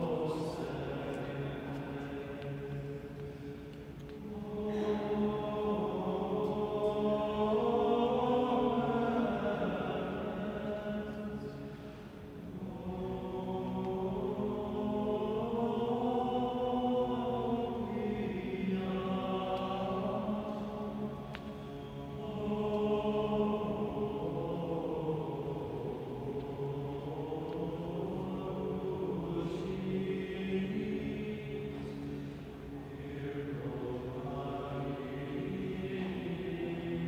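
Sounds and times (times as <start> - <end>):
male choir chanting a cappella: 0.0 - 37.0.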